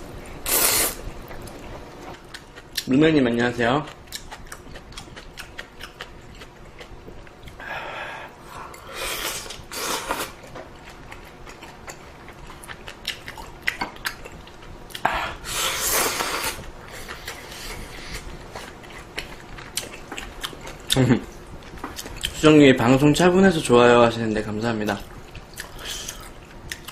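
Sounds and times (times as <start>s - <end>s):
person chewing noodles: 0.2s - 2.9s, 3.8s - 22.4s, 24.9s - 26.9s.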